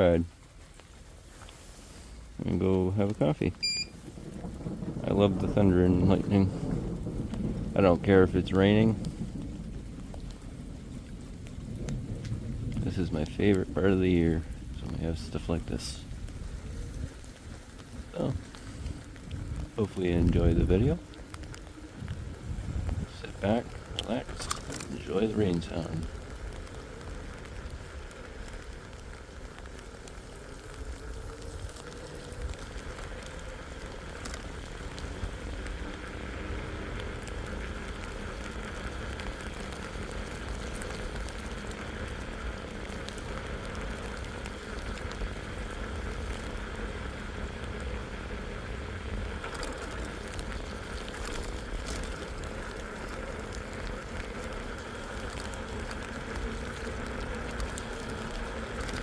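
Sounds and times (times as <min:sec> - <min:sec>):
steady rain: 0:00.0 - 0:59.0
vehicle rumble: 0:00.0 - 0:59.0.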